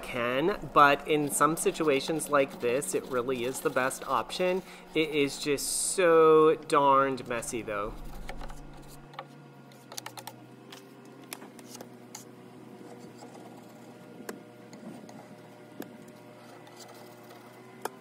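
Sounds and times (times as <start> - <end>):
putty knife scraping paint: 0.0 - 5.7, 7.2 - 10.3, 11.6 - 14.1, 14.7 - 18.0
faint steady hum: 0.0 - 18.0.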